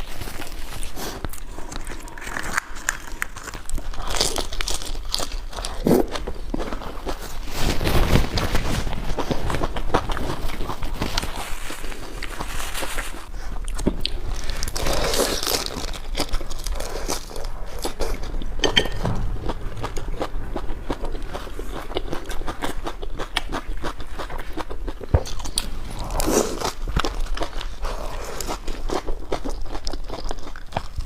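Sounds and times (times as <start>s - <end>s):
crunchy food being chewed: 0.0s - 18.8s, 19.4s - 31.0s.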